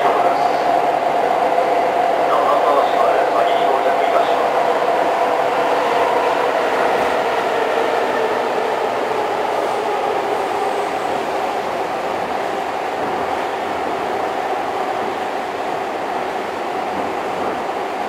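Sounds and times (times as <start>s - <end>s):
train rumbling from inside: 0.0s - 18.0s.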